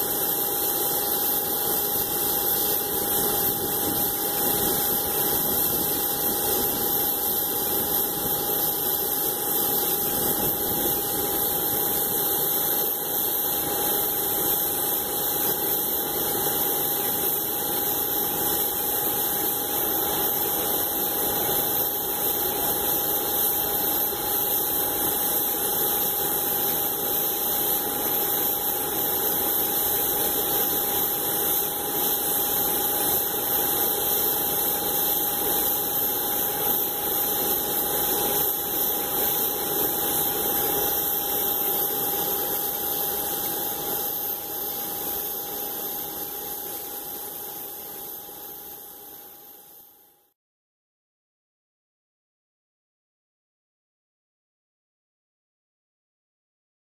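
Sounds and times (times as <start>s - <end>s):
jet engines running: 0.0s - 48.8s.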